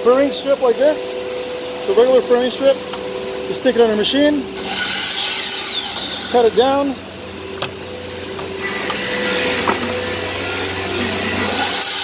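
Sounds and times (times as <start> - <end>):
miter saw cutting wood: 0.0 - 12.0.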